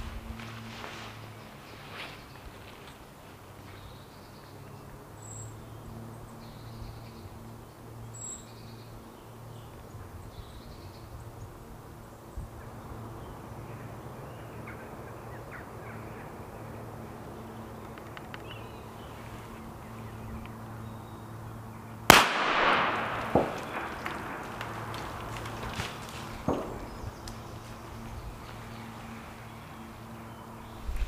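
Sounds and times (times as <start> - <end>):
birds calling: 0.0 - 31.0
steady low hum: 0.0 - 31.0.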